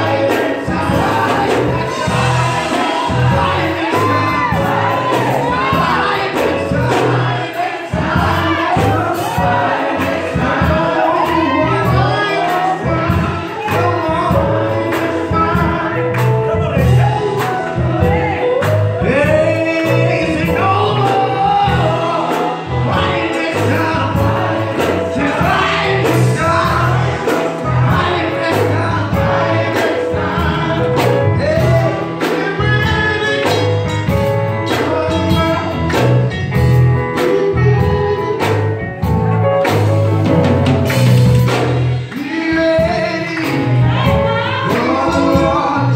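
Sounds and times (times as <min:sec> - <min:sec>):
gospel singing with band: 0:00.0 - 0:45.9
steady drum beat: 0:00.0 - 0:45.9.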